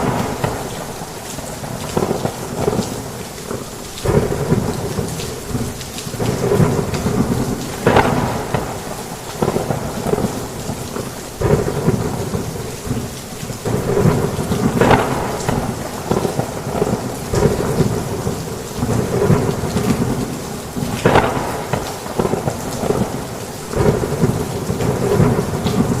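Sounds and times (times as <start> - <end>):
thunder rumbling: 0.0 - 3.0, 4.0 - 26.0
heavy rain on a roof: 0.0 - 26.0.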